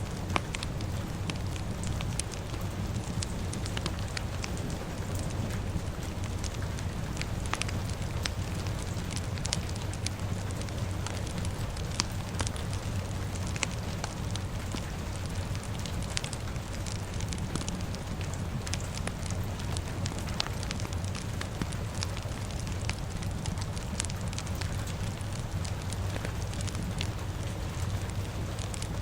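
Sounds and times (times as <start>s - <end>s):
fire crackling and popping: 0.0s - 29.0s
rain hiss: 0.0s - 29.0s.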